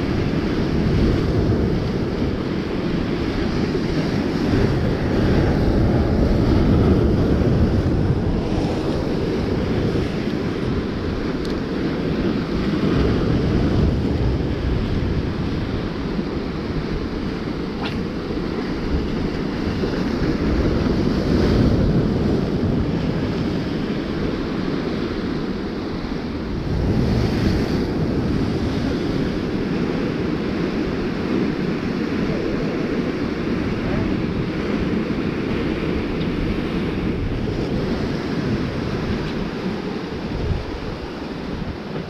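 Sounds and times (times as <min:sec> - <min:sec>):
surf breaking over rocks: 0:00.0 - 0:42.0
wind rumbling on microphone: 0:00.0 - 0:42.0.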